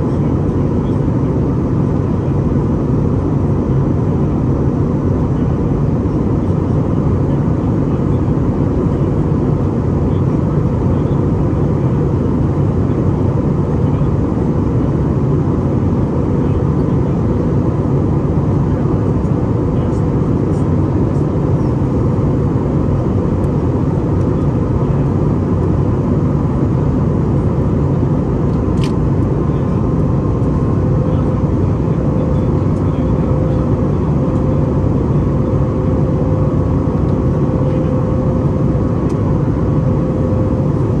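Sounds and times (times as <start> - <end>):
airplane cabin engine noise: 0.0 - 41.0
faint steady hum: 0.0 - 41.0.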